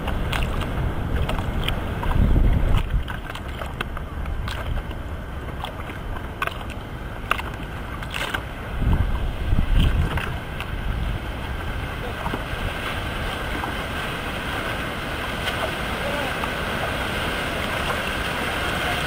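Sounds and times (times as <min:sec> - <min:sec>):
ocean water washing: 0:00.0 - 0:19.0
wind buffeting microphone: 0:00.0 - 0:19.0.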